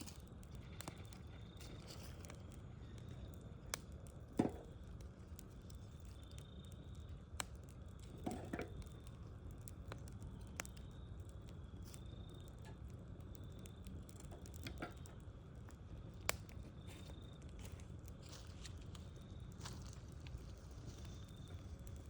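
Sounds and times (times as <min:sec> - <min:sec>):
fire pops and crackles: 0:00.0 - 0:22.0
wood fire rumbling: 0:00.0 - 0:22.0.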